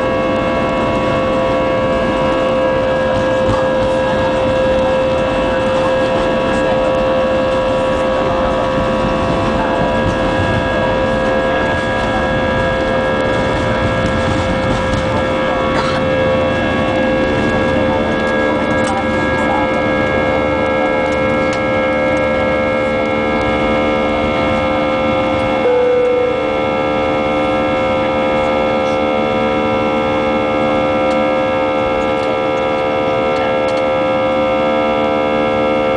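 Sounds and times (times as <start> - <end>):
engine whining tones: 0.0 - 35.9
jet engines rushing: 0.0 - 35.9.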